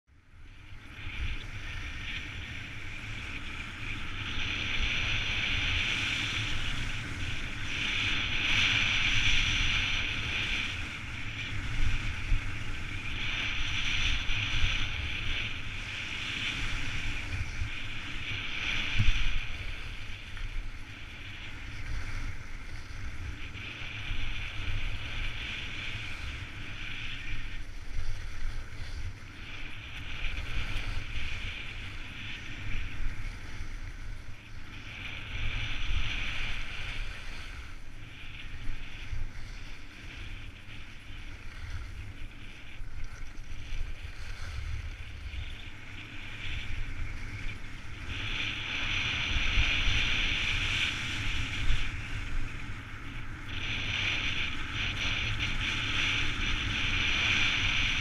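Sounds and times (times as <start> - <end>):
wind rumble on microphone: 0.1 - 58.0.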